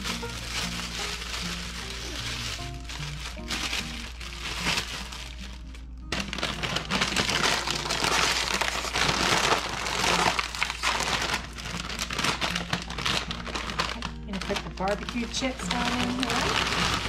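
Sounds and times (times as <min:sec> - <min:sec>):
background music: 0:00.0 - 0:17.0
chip bag crackling: 0:00.0 - 0:17.0
plastic bag crinkling: 0:00.0 - 0:17.0.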